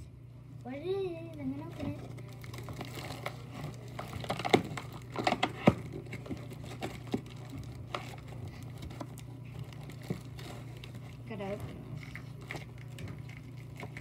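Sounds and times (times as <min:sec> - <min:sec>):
toy packaging clicks and crinkles: 0:01.3 - 0:14.0.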